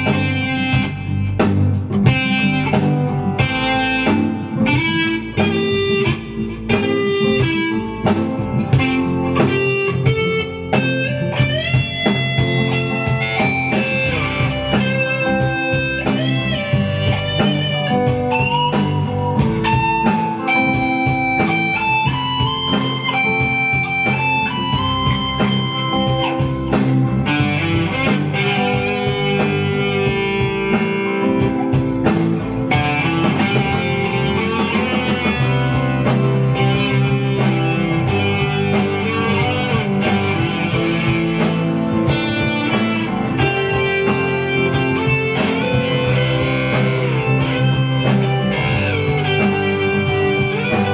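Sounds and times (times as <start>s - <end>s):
electric guitar blues lead: 0.0s - 50.9s.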